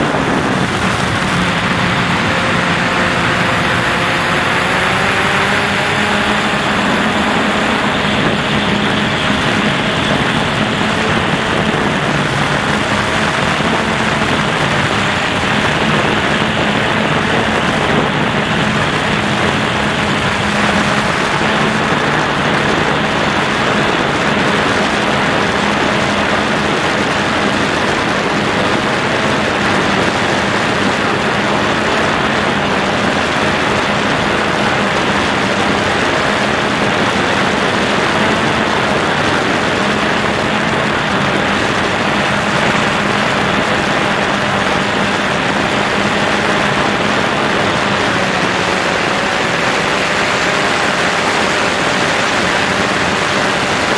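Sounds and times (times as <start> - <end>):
drone motors humming: 0.0 - 53.9
wind noise: 0.0 - 53.9.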